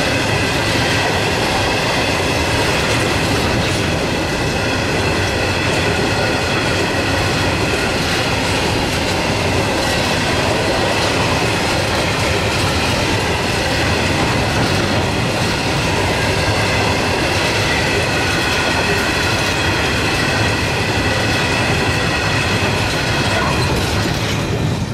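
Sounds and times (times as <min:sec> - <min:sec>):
train wheels rumbling on rail: 0:00.0 - 0:24.9.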